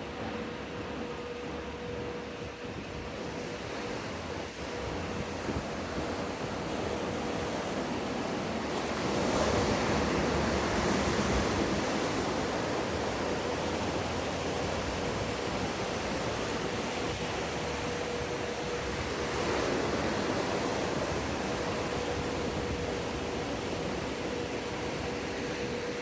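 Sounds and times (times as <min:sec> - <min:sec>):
faint steady hum: 0:00.0 - 0:26.0
wave breaking and rushing water: 0:00.0 - 0:26.0.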